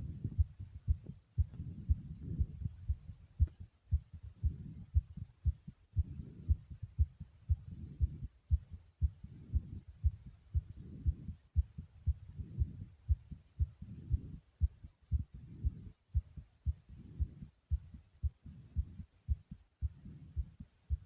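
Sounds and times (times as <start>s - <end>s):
heartbeat thumps: 0.0s - 21.0s.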